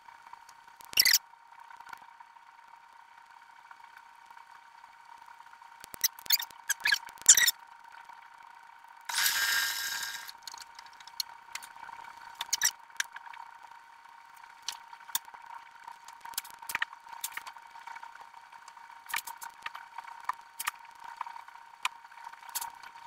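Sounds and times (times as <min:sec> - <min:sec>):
steady high hum: 0:00.0 - 0:23.0.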